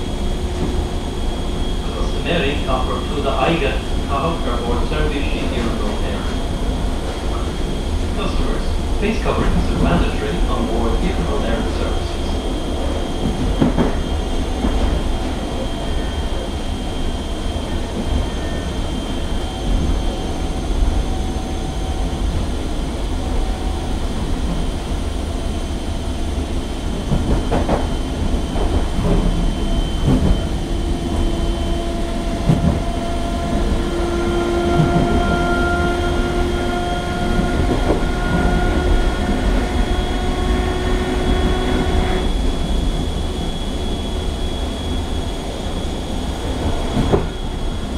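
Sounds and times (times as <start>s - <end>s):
steady whine: 0.0s - 47.9s
train wheels rumbling on rail: 0.0s - 47.9s.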